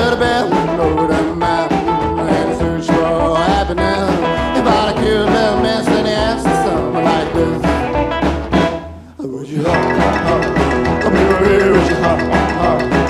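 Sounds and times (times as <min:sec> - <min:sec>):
band music with steady beat: 0:00.0 - 0:09.1, 0:09.7 - 0:13.0.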